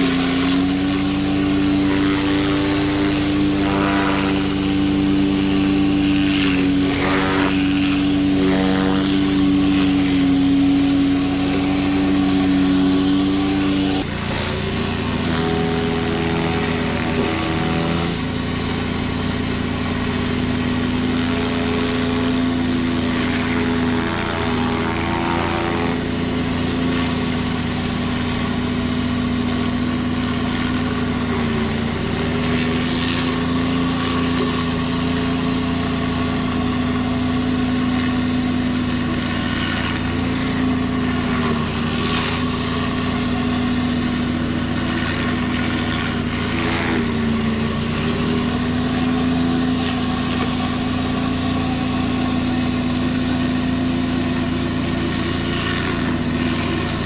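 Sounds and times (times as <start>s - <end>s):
pressure washer engine running: 0.0s - 57.0s
water jets hissing on concrete: 0.0s - 57.0s.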